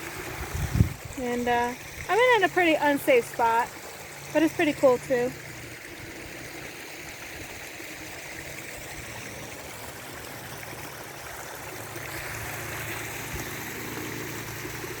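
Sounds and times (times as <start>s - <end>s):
water trickling over rock: 0.0s - 15.0s.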